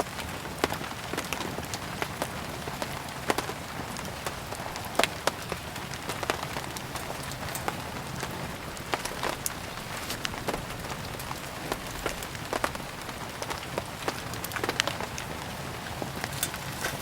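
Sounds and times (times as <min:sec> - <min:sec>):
burning firewood crackling: 0:00.0 - 0:17.0
steady rain: 0:00.0 - 0:17.0.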